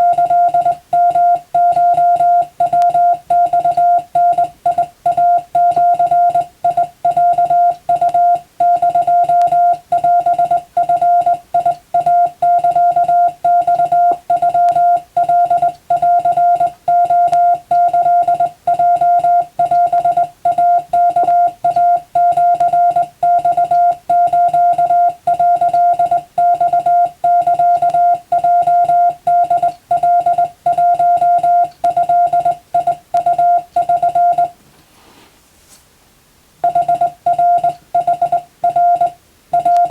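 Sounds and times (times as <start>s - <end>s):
morse code beeps: 0.0s - 34.6s, 36.6s - 39.9s.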